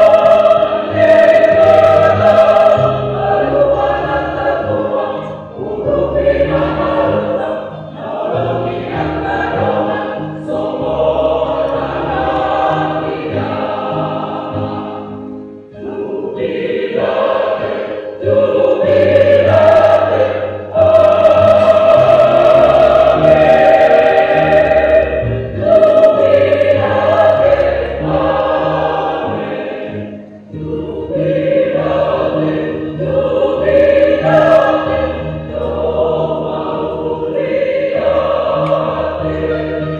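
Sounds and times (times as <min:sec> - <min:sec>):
mixed choir singing a hymn: 0:00.0 - 0:39.9.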